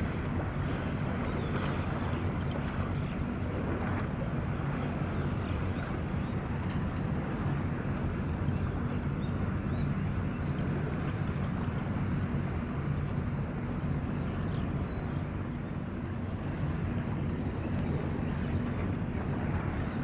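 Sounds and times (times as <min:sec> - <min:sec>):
boat engines droning: 0:00.0 - 0:20.0
water rushing: 0:00.0 - 0:20.0
wind: 0:00.0 - 0:20.0.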